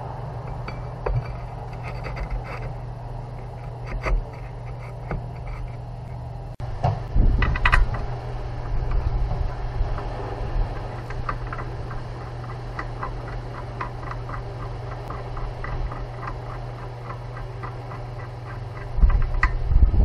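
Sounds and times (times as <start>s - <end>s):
steady low hum: 0.0s - 20.0s
rapid mechanical clicking: 0.5s - 20.0s.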